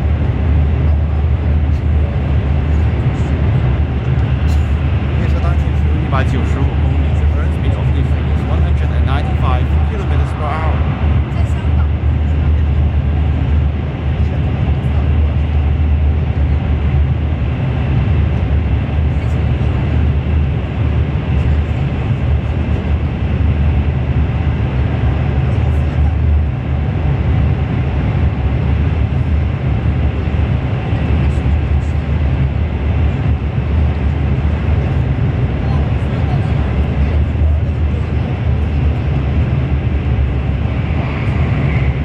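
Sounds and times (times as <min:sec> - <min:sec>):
train cabin rumble: 0:00.0 - 0:42.0.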